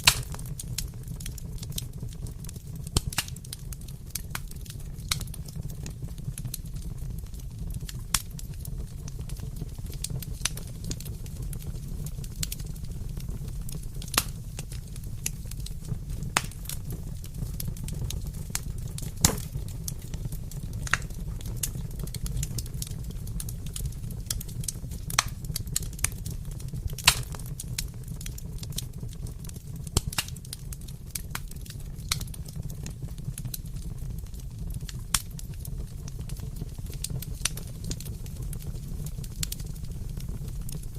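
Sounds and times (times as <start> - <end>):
fireplace fire crackling: 0.0 - 40.9.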